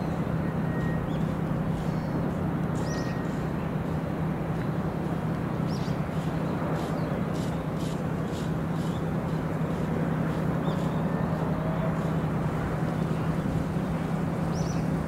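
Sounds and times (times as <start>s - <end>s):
harbour noise: 0.0s - 15.0s
ship engine droning: 0.0s - 15.0s
wind: 0.0s - 15.0s.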